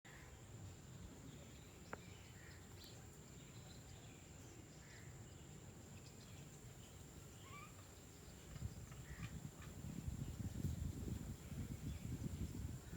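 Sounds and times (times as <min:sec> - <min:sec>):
faint bird chirps: 0:00.1 - 0:12.9.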